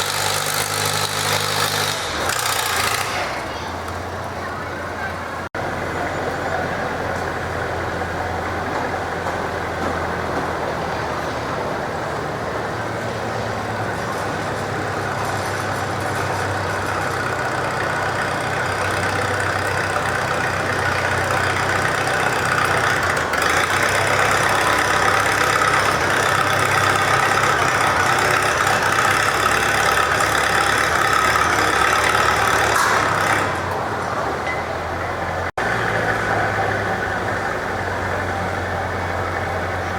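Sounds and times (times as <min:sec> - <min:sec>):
tractor engine pulling: 0:00.0 - 0:39.9.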